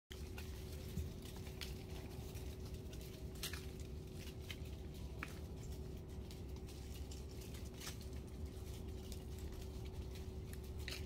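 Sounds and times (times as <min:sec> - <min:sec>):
faint steady hum: 0:00.1 - 0:11.0
falling leaves ticking and pattering: 0:00.1 - 0:11.0
low steady rumble: 0:00.1 - 0:11.0.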